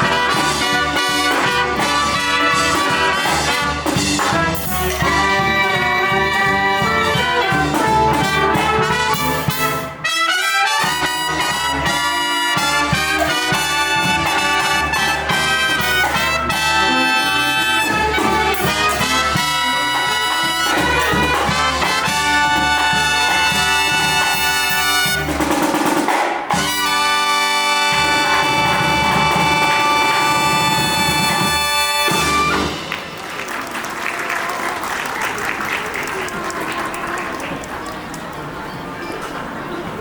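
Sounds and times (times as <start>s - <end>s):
brass band playing: 0.0s - 37.0s.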